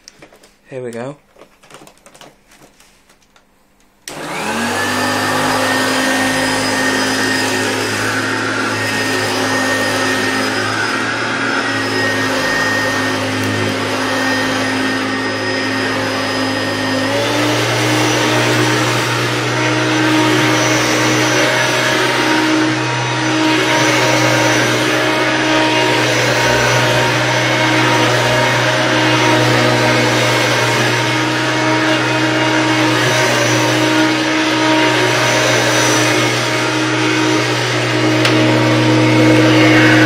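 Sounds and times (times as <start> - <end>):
upright vacuum cleaner running: 4.0 - 40.0.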